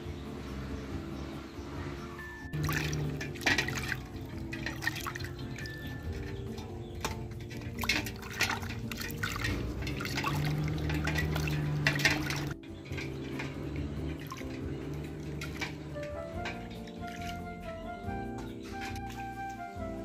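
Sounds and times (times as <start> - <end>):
water splashing in metal basin: 0.0 - 19.8.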